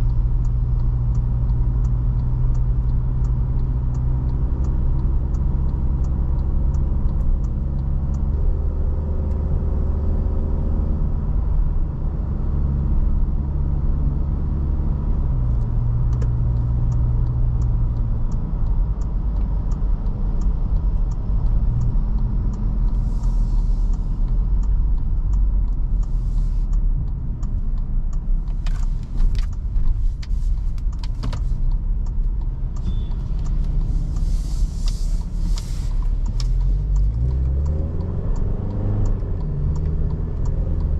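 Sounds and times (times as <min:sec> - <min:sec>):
faint regular ticking: 0:00.0 - 0:10.0, 0:11.5 - 0:40.9
car engine driving: 0:00.0 - 0:40.9.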